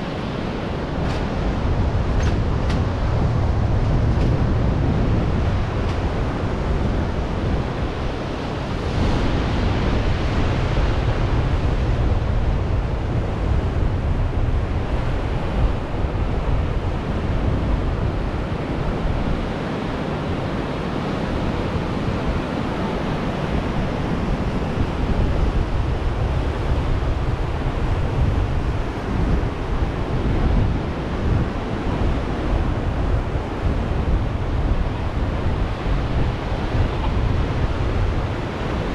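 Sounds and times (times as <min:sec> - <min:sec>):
ocean surf breaking on beach: 0:00.0 - 0:38.9
wind rumbling on microphone: 0:00.0 - 0:38.9.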